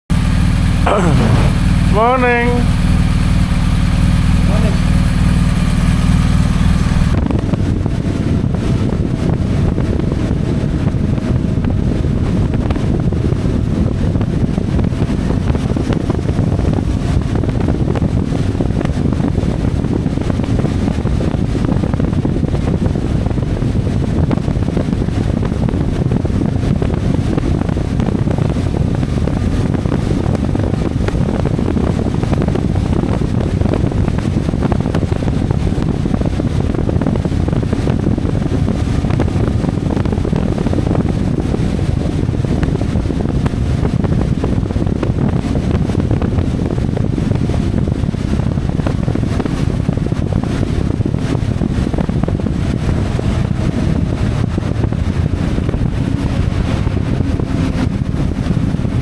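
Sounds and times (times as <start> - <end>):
motorcycle engine running: 0.0 - 59.0
wind buffeting microphone: 0.1 - 59.0.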